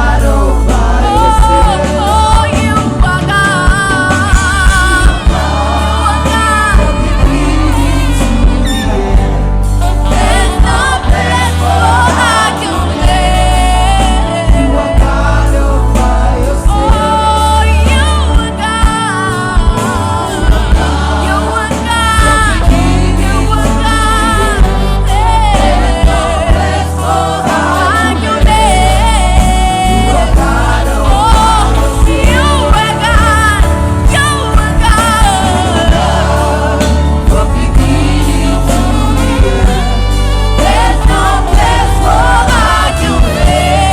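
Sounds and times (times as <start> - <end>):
bass and drums beat: 0.0 - 43.9
choir singing gospel: 0.0 - 43.9.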